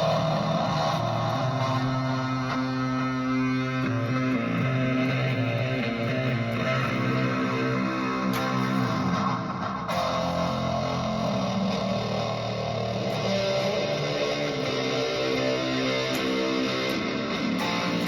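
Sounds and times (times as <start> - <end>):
electric guitar ringing chords: 0.0 - 18.0.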